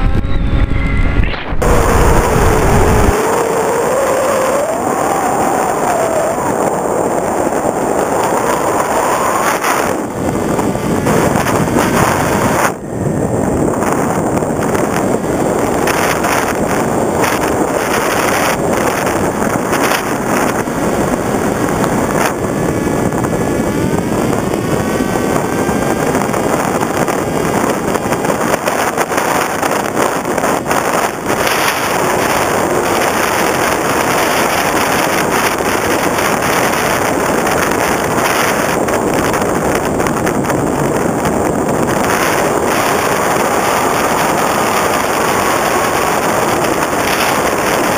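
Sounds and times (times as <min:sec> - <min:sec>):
electric motor and propeller: 0:00.0 - 0:47.9
wind rushing over camera: 0:00.0 - 0:47.9.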